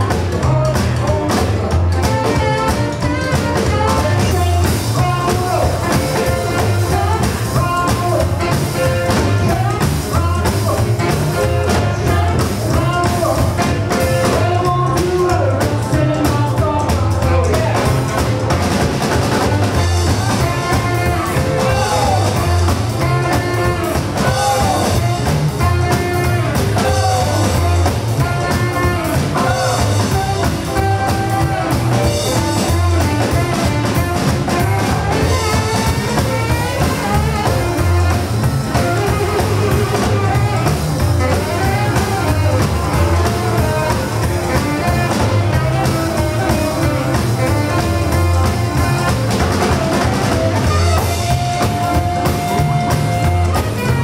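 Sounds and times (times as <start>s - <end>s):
live rock and roll band: 0.0s - 54.0s
saxophone lead: 0.0s - 54.0s.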